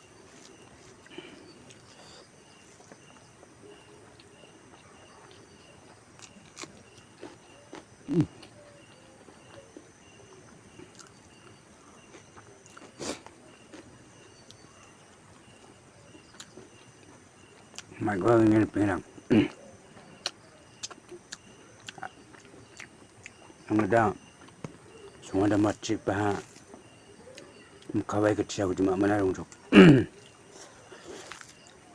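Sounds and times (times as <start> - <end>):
faint high chirp: 0.0 - 31.9.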